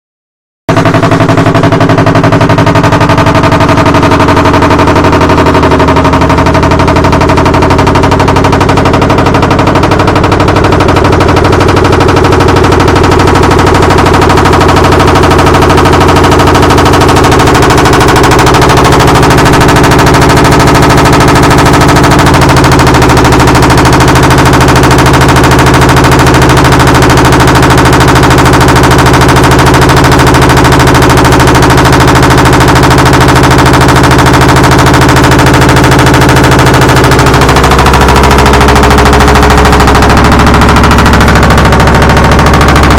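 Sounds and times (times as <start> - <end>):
washing machine banging rattle: 0.7 - 42.9
washing machine drone: 0.7 - 42.9.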